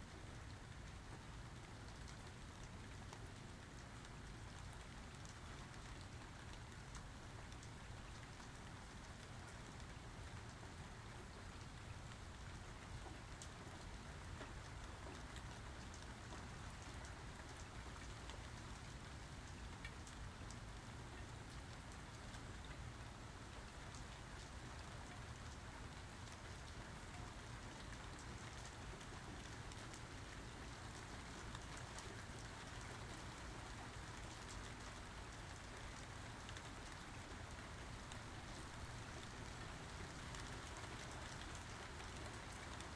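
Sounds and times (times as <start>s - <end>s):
rain falling: 0.1s - 42.9s
raindrops ticking on surfaces: 0.1s - 42.9s.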